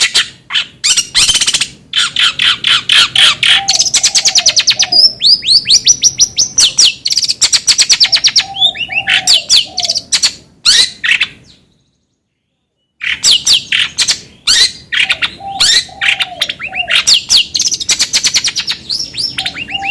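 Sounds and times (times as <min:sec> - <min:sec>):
songbird trills and chirps: 0:00.0 - 0:19.9.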